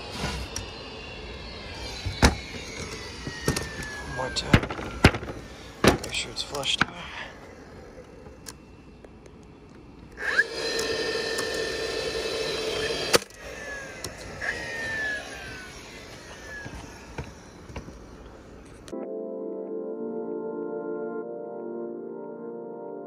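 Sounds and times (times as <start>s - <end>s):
nailer motor whirring: 0.0s - 18.9s.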